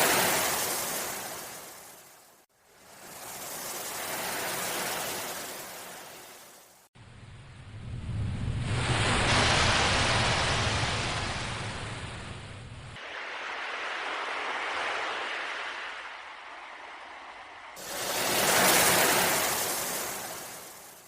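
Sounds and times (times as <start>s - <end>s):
sea waves washing in: 0.0s - 6.9s, 7.7s - 21.0s.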